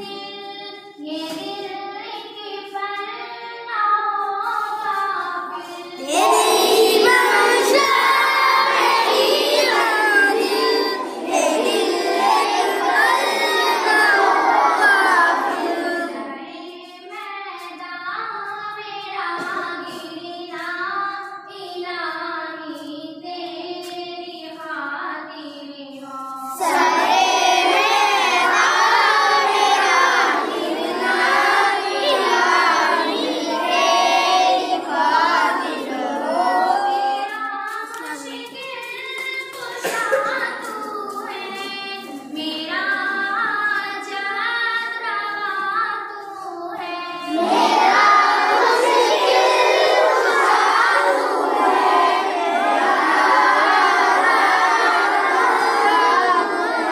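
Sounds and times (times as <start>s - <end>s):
children singing a hymn: 0.0s - 16.9s, 19.2s - 20.2s, 26.1s - 37.4s, 38.4s - 56.9s.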